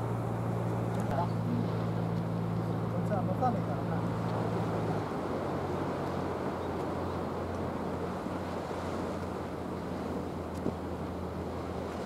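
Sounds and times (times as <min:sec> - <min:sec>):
low engine drone: 0:00.0 - 0:12.0
sea noise: 0:00.0 - 0:12.0
wind: 0:00.0 - 0:12.0.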